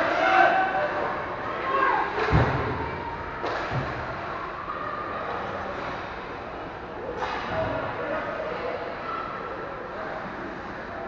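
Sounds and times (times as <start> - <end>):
ice rink hum: 0.0 - 11.0.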